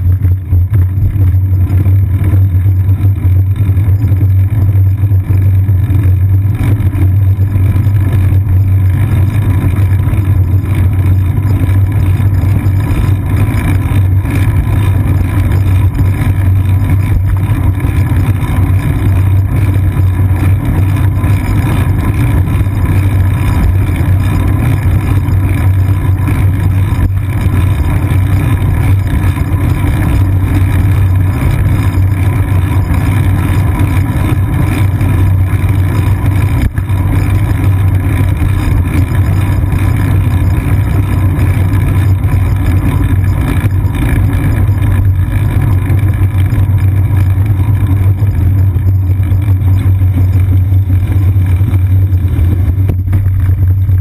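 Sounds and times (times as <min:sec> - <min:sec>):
constant deep hum: 0:00.0 - 0:54.0
road vibration: 0:00.0 - 0:54.0
wind rumble: 0:00.0 - 0:54.0.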